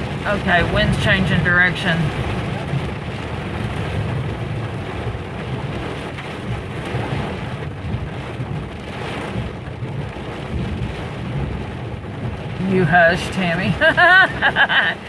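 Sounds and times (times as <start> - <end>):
low thunder rumbling: 0.0 - 15.0
steady rain: 0.0 - 15.0
wind: 0.0 - 15.0.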